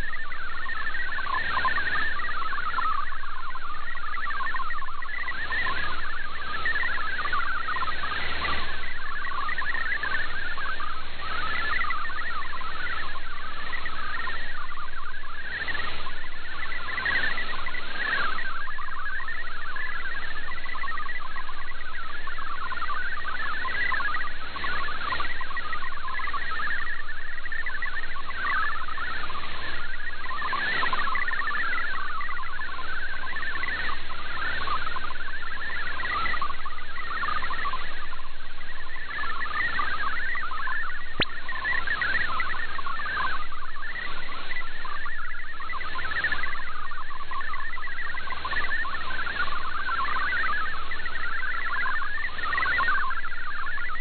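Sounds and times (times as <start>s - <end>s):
radio receiver hiss: 0.0s - 54.0s
warbling digital data tones: 0.0s - 54.0s.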